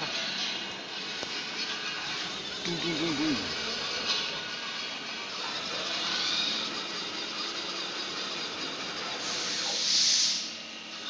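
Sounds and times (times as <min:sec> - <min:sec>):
cnc router machine hiss: 0:01.0 - 0:04.6, 0:05.2 - 0:11.0.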